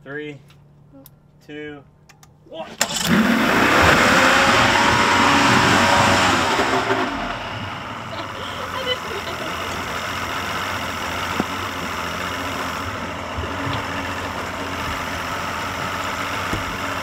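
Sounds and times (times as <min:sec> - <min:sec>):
rope start pull: 0:02.7 - 0:17.0
outboard boat engine idling: 0:02.8 - 0:17.0.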